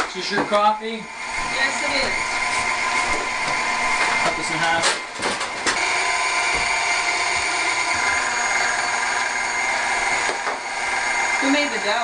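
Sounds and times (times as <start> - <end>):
stand mixer motor running: 0.0 - 12.0.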